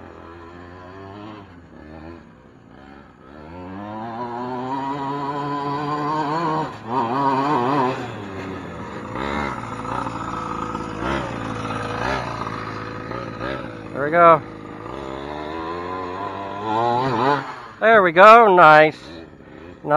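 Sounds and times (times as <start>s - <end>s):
two-stroke engine revving: 0.0s - 19.9s.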